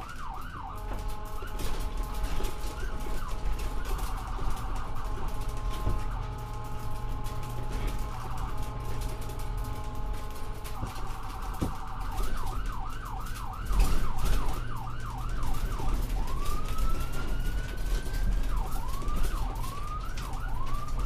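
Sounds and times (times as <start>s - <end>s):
ambulance siren: 0.0s - 21.0s
vehicle rumble: 0.0s - 21.0s.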